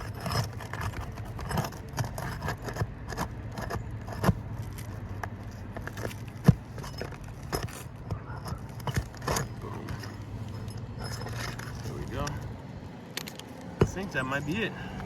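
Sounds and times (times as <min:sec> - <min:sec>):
shingle cracking: 0:00.0 - 0:14.3
tool scraping under shingles: 0:00.0 - 0:15.0.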